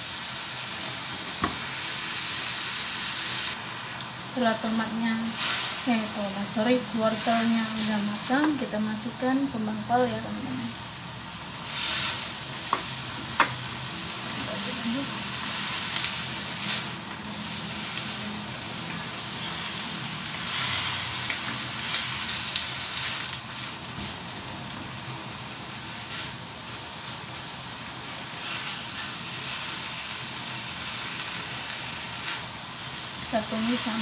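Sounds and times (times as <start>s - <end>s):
food sizzling in a wok: 0.0s - 34.0s.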